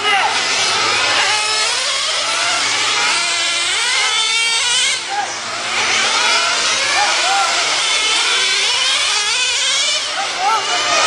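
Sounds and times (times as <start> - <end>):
racing engines passing: 0.0 - 11.0.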